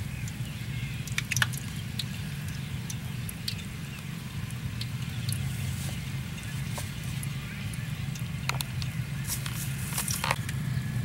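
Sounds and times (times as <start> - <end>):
oil popping in a wok: 0.0 - 9.2.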